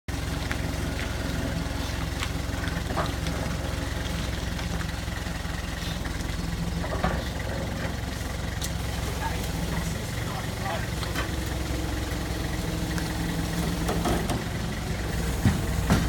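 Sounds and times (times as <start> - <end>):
engine idling: 0.1 - 16.0.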